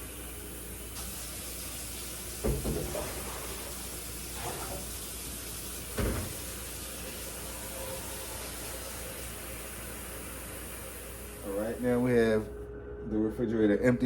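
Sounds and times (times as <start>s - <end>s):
steady hiss: 0.0s - 12.3s.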